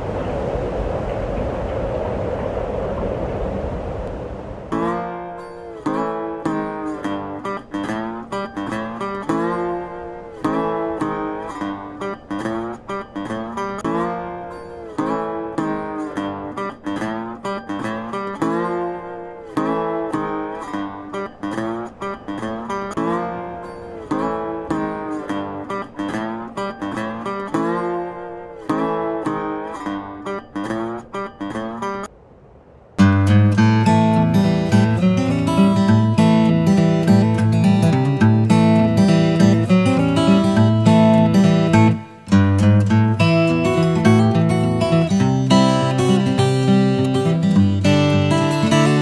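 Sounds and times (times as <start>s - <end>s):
plucked acoustic guitar tune: 4.7s - 32.1s, 33.0s - 49.0s.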